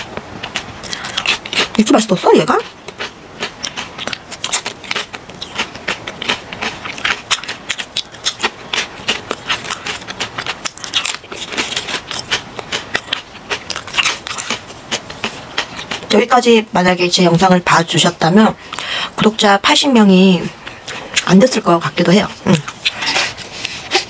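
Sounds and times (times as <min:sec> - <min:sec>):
chewing crisp potato chips: 0:00.4 - 0:17.1, 0:18.7 - 0:24.0.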